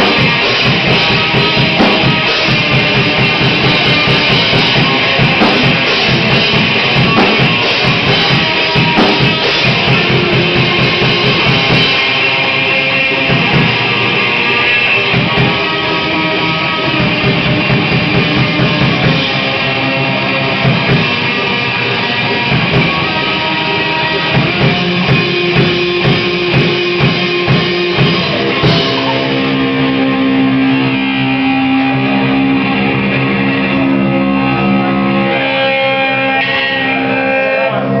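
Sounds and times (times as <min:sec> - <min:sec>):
rock band playing: 0:00.0 - 0:38.0.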